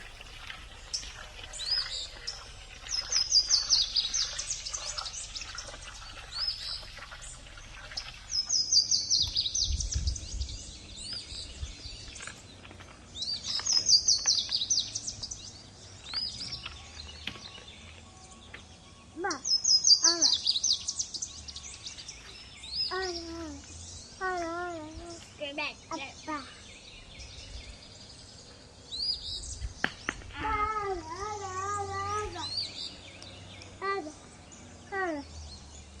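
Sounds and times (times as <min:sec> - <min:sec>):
bird chirps: 0:00.0 - 0:36.0
songbird singing: 0:00.0 - 0:36.0.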